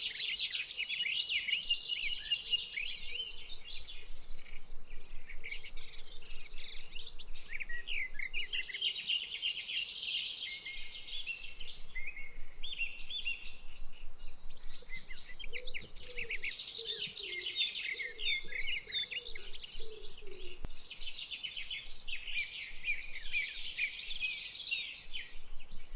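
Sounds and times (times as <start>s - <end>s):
small birds chirping and trilling: 0.0s - 25.9s.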